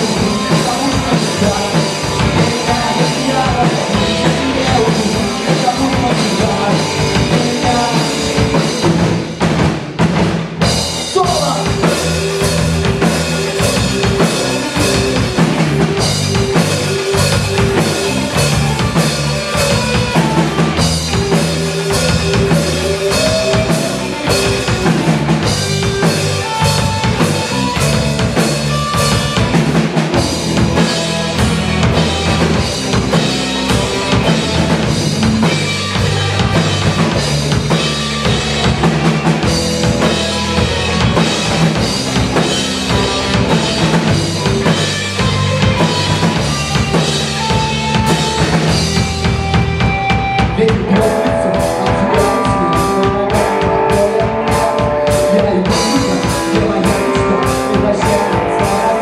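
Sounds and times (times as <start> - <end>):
drum kit pounding: 0.0 - 59.0
live band instrumental solo: 0.0 - 59.0.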